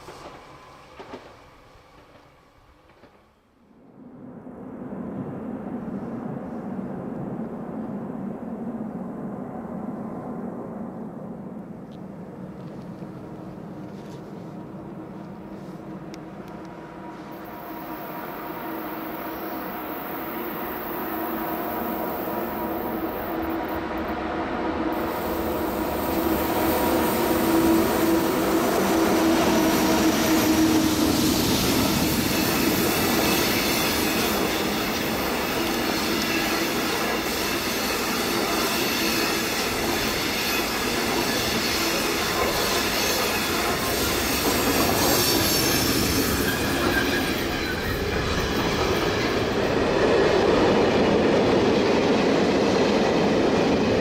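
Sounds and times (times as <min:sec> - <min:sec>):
train wheels rumbling on rails: 0:00.0 - 0:03.6, 0:11.5 - 0:54.0.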